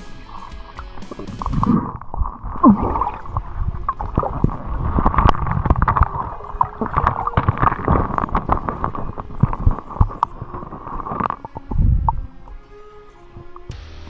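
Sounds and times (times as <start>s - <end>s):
gurgling water underwater: 0.8s - 13.7s.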